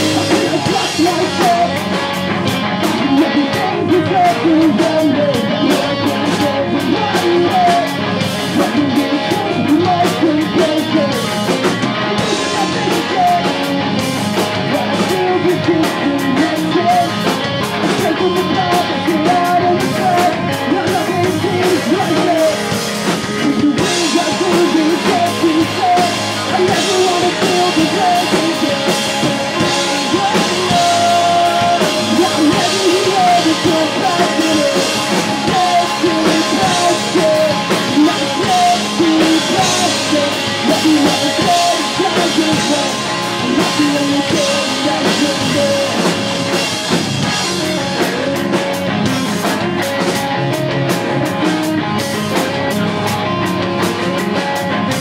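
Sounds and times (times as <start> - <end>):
bass guitar: 0.0 - 55.0
drum kit: 0.0 - 55.0
electric guitars: 0.0 - 55.0.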